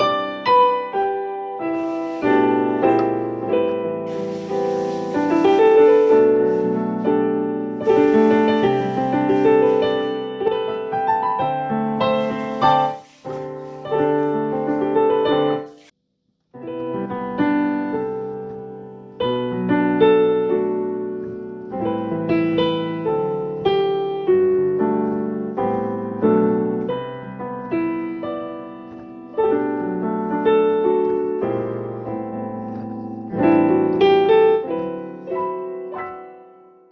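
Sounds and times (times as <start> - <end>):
piano chords: 0.0 - 15.7, 16.6 - 36.8.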